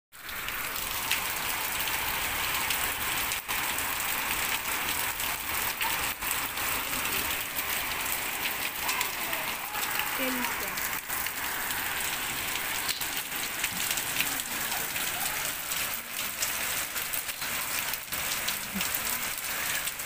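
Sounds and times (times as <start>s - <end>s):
heavy rain on wet paving: 0.1s - 20.0s.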